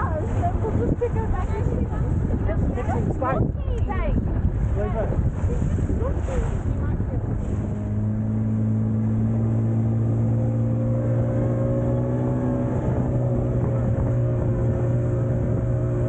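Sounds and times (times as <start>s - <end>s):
outboard motor droning: 0.0s - 16.0s.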